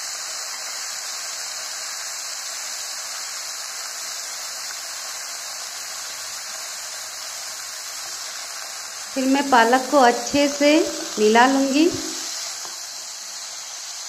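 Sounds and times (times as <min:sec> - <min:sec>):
spinach sizzling in a hot pan: 0:00.0 - 0:14.0.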